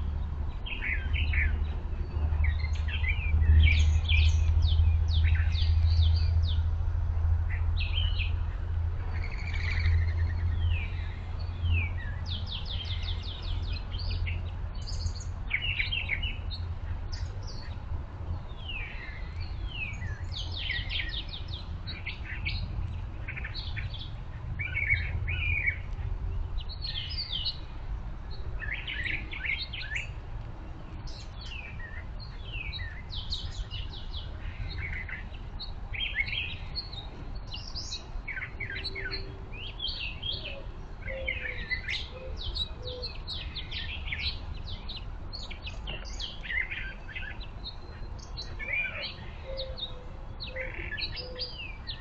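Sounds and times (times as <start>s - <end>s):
steady low rumble: 0.0s - 50.5s
small songbirds chirping and trilling: 0.0s - 52.0s.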